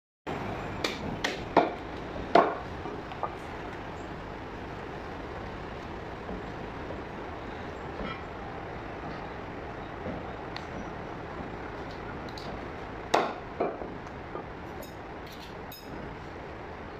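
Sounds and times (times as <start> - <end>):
steady background noise: 0.3 - 16.9.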